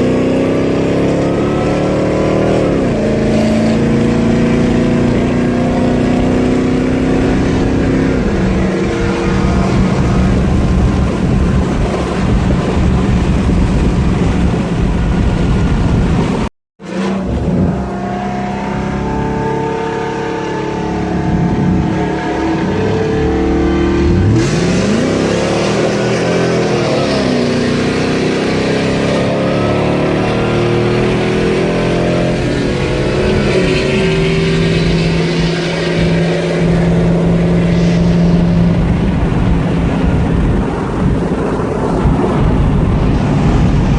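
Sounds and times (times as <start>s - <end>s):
engine accelerating through gears: 0.0s - 40.4s.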